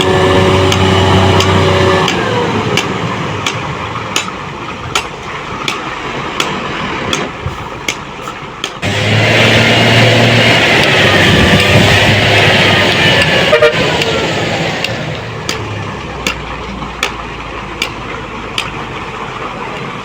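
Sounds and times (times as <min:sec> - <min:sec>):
vehicle engine: 0:00.0 - 0:20.0.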